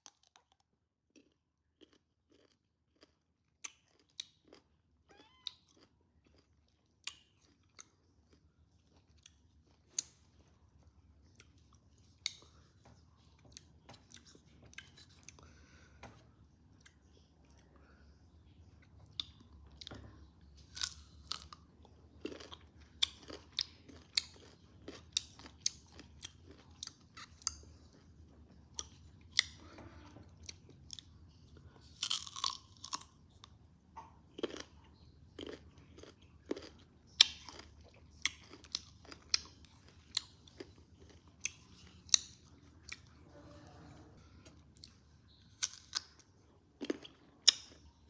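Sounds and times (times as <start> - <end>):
crunchy chewing: 0.0 - 4.7, 5.4 - 15.6, 20.6 - 33.6, 34.3 - 48.0.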